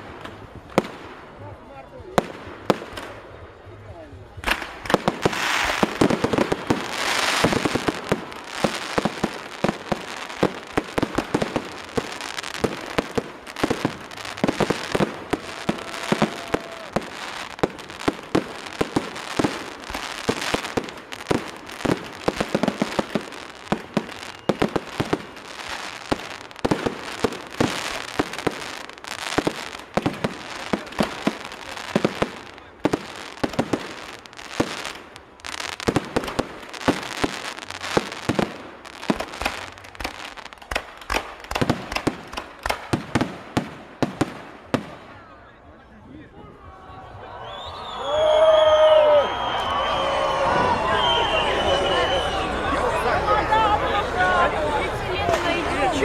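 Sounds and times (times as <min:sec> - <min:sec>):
fireworks bangs and crackling: 0:00.0 - 0:45.4, 0:54.7 - 0:56.0.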